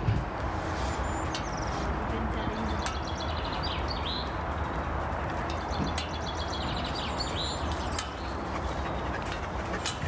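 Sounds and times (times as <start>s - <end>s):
birds singing: 0.8s - 10.0s.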